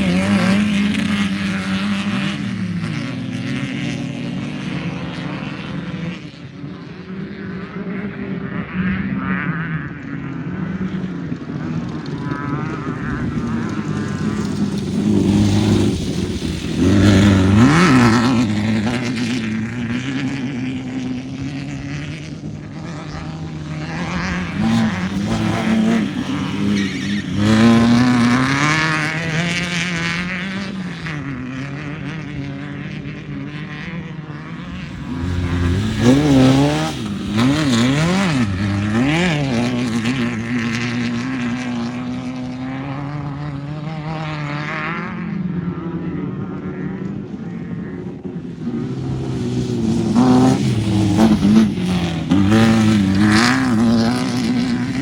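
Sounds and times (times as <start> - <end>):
race engines revving: 0.0 - 55.0.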